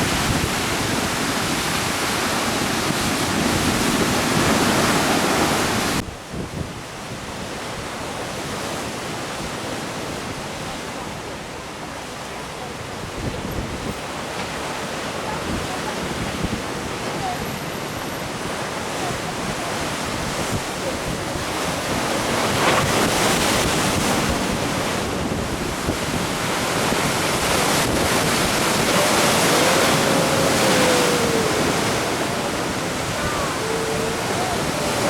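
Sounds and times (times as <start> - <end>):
wind buffeting microphone: 0.0 - 8.6, 15.4 - 35.0
surf washing onto shore: 0.0 - 35.0.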